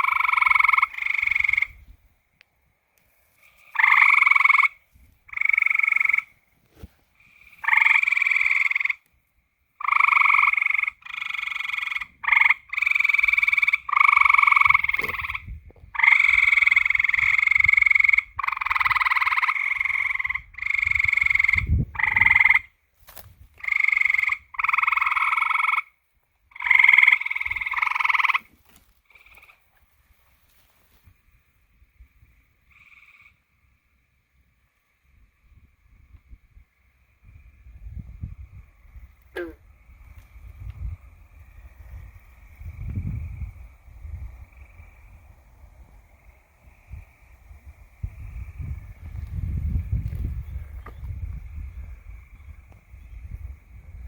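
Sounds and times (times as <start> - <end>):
frogs croaking: 0.0 - 6.5, 7.1 - 54.0.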